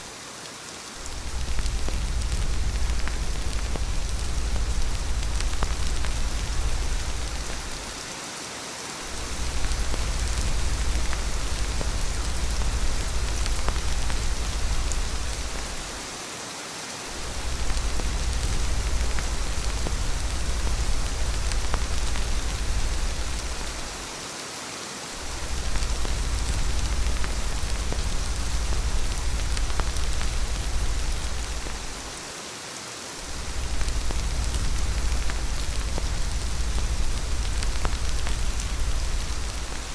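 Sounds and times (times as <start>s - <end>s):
heavy rain: 0.0s - 39.9s
deep low rumble: 1.1s - 7.9s, 9.1s - 16.0s, 17.2s - 24.0s, 25.2s - 32.1s, 33.3s - 39.9s.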